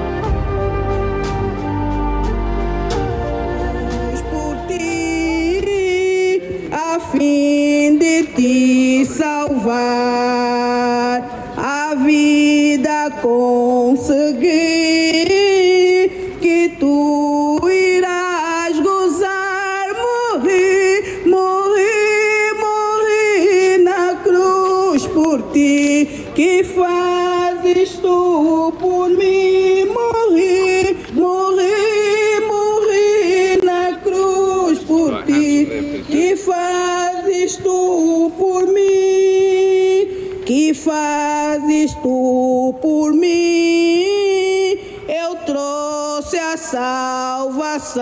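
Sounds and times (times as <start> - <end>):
person singing slow melody: 0.0 - 48.0.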